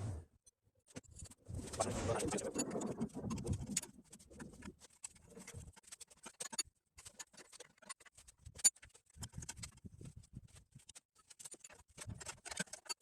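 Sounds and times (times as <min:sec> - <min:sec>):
metal parts and tools rattling: 0:00.9 - 0:13.0.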